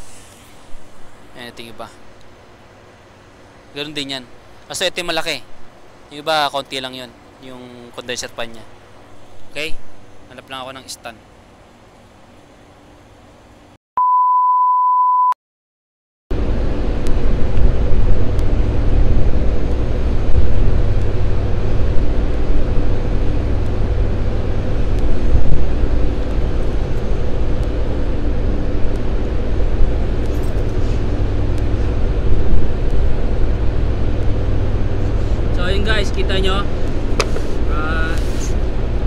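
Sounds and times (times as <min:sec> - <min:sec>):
chiller machinery hum: 0:00.0 - 0:13.8, 0:16.3 - 0:39.0.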